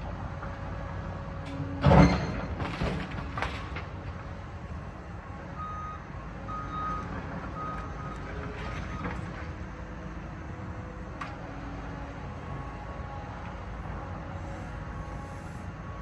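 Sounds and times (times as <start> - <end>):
diesel engine rumble: 0.0 - 16.0.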